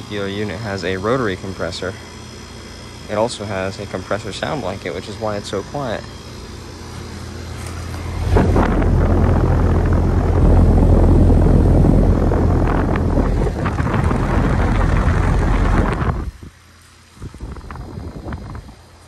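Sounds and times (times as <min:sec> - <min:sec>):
fan air rushing over microphone: 0:00.0 - 0:19.0
heat pump humming: 0:00.0 - 0:19.0.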